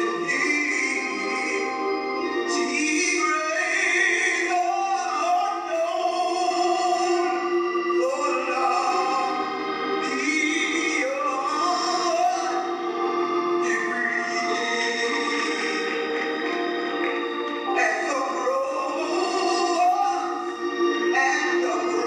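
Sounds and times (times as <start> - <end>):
musical accompaniment: 0.0 - 22.0.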